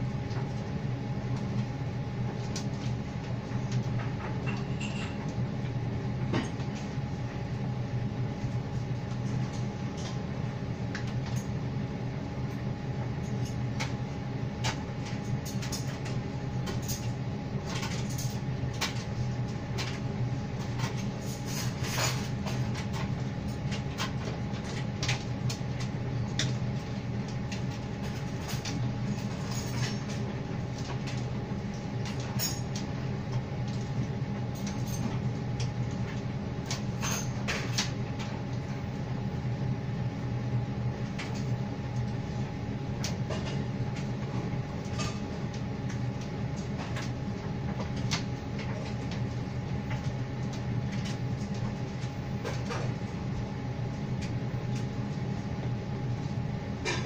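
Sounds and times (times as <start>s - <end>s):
tumble dryer motor humming: 0.0s - 57.0s.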